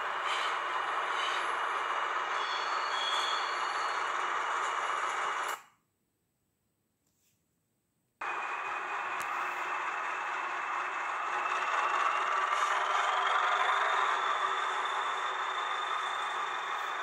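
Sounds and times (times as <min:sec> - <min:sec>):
hissy diesel engine: 0:00.0 - 0:05.6, 0:08.2 - 0:17.0
moving train running noise: 0:00.0 - 0:05.6, 0:08.2 - 0:17.0.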